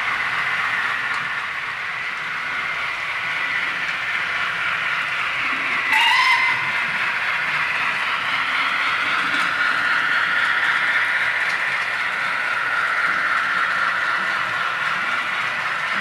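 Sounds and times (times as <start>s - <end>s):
model train steam exhaust chuffing: 0.0s - 16.0s.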